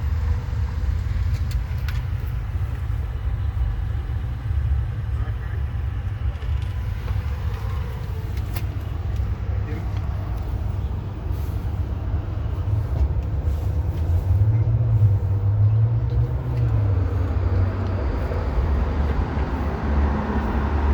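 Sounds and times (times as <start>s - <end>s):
vehicle engine rumble passing: 0.0s - 20.9s.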